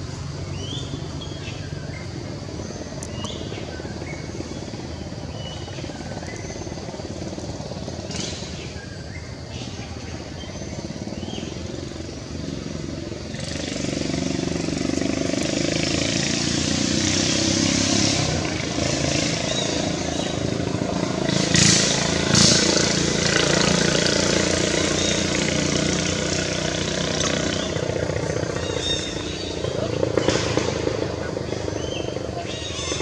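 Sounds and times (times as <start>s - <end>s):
loud vehicle engine: 0.0s - 33.0s
motor traffic: 0.0s - 33.0s.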